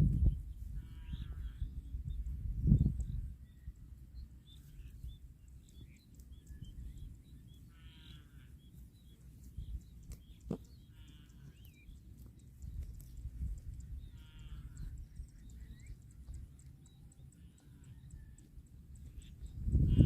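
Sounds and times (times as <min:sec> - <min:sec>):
birds chirping faintly: 0:00.1 - 0:20.0.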